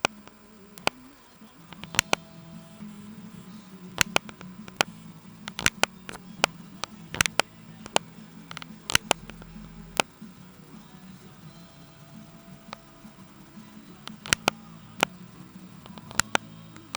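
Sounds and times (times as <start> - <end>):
keyboard keys clicking: 0.0 - 11.1, 11.8 - 16.9.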